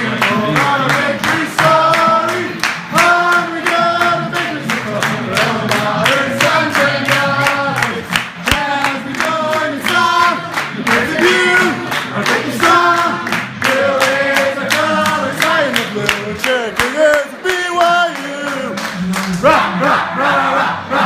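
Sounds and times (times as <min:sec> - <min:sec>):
crowd clapping on the beat: 0:00.0 - 0:19.6
crowd singing in unison: 0:00.0 - 0:21.0.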